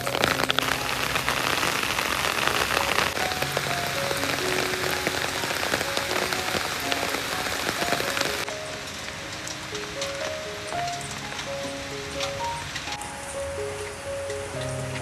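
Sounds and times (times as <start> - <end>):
soft slow background music: 0.0 - 15.0
steady rain: 0.0 - 15.0.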